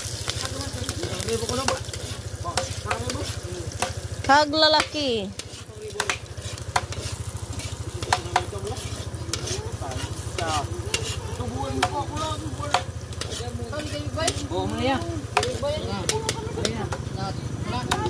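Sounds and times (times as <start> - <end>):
garlic and onion sizzling: 0.0 - 18.0
metal spatula scraping a wok: 0.4 - 16.6.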